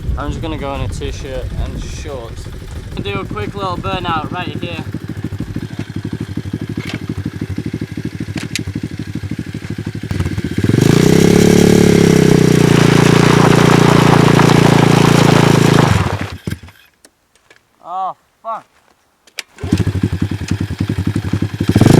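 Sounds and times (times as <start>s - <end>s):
motorcycle engine revving: 0.0s - 16.8s, 19.6s - 21.9s.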